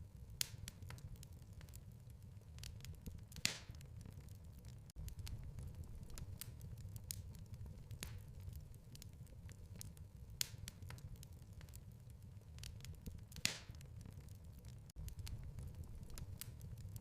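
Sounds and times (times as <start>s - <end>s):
fire crackling and popping: 0.0s - 17.0s
low rumble of flame: 0.0s - 17.0s.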